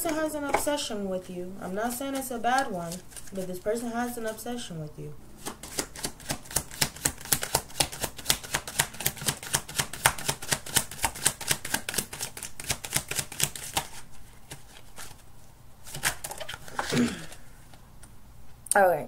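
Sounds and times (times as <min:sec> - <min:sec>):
cards being shuffled: 0:01.7 - 0:04.5, 0:05.4 - 0:18.2.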